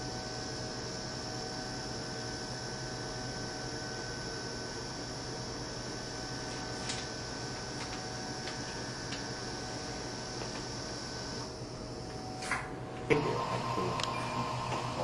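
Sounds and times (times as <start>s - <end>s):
machine electrical hum and hiss: 0.0s - 15.0s.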